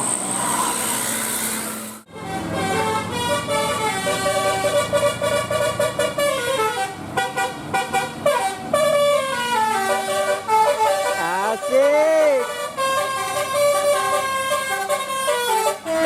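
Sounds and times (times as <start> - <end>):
bus multi-tone horn playing tune: 2.0 - 16.0.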